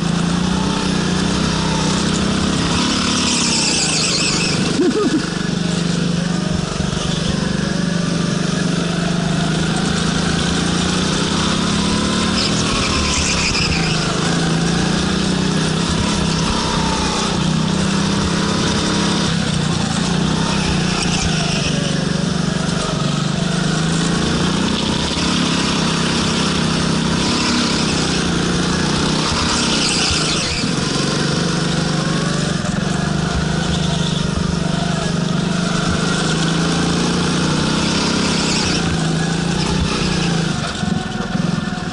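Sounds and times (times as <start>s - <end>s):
go-kart engine revving: 0.0s - 41.9s.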